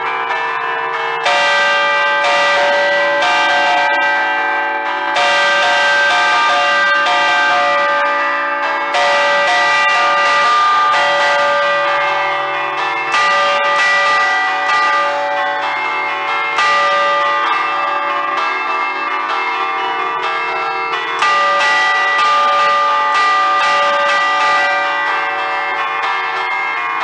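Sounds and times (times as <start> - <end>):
church bells chiming: 0.0 - 27.0.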